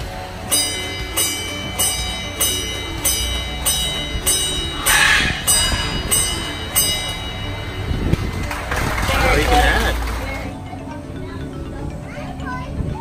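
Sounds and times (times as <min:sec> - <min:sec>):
bell struck rhythmically: 0:00.0 - 0:12.7.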